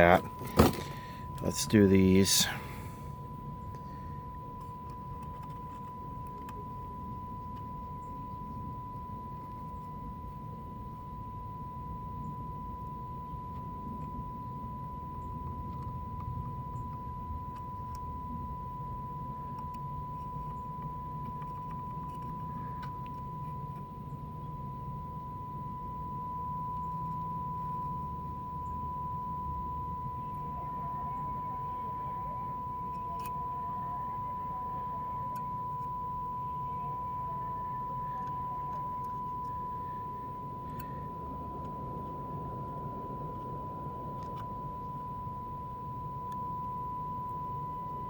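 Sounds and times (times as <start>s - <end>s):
low hum: 0.0s - 48.0s
steady test tone from radio: 0.0s - 48.0s.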